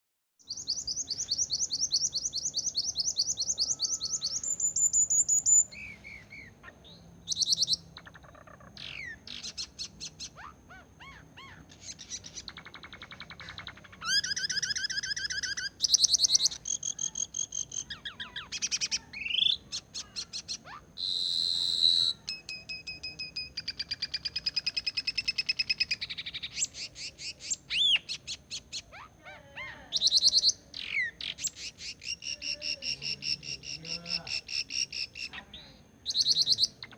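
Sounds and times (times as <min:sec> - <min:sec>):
songbird singing trills and whistles: 0:00.4 - 0:36.9.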